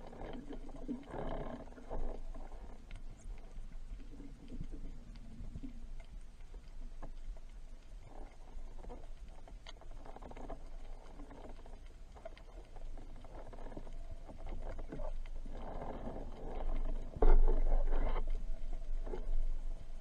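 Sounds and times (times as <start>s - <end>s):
small clicks underwater: 0.0s - 20.0s
underwater swishing: 0.0s - 20.0s.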